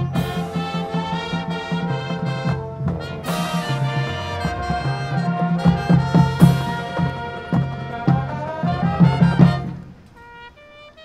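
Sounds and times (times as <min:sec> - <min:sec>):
marching band playing: 0:00.0 - 0:11.0
soft held notes: 0:00.0 - 0:11.0.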